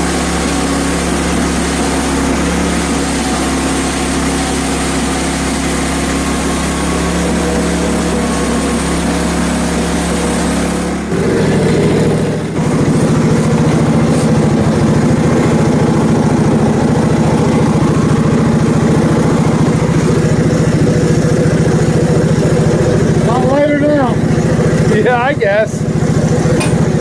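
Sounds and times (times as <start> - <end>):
small gas engine running: 0.0 - 27.0.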